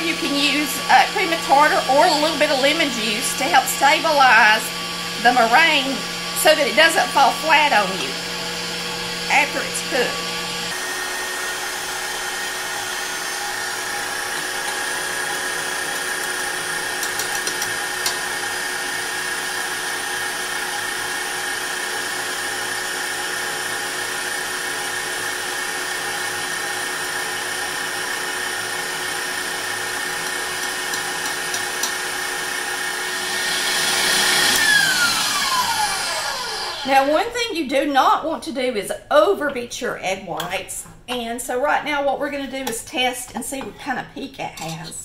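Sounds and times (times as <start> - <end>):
stand mixer motor whine: 0.0 - 37.2
whisk beating egg whites: 0.2 - 37.1.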